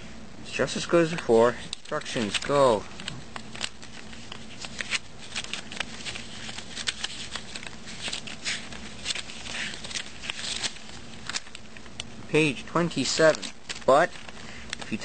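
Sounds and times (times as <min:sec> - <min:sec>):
paper pages flipping: 0:01.0 - 0:15.0.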